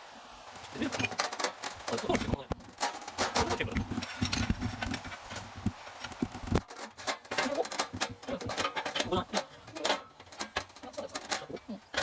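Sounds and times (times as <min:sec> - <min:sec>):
iron parts clanking together: 0:00.8 - 0:05.3, 0:06.6 - 0:12.0.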